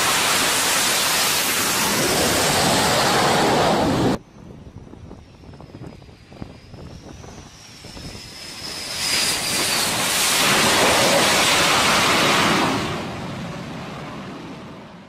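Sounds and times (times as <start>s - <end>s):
fighter jet engines passing: 0.0s - 15.0s.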